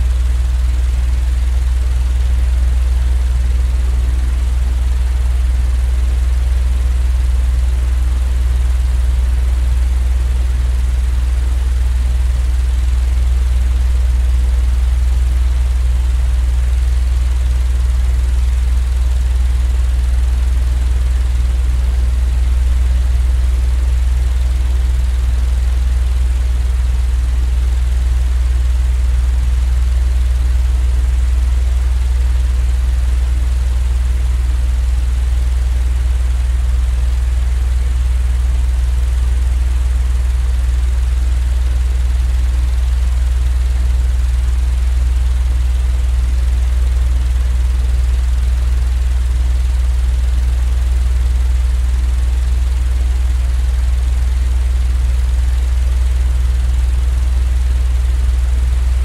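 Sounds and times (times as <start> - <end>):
low machine rumble: 0.0 - 51.5, 52.2 - 59.0.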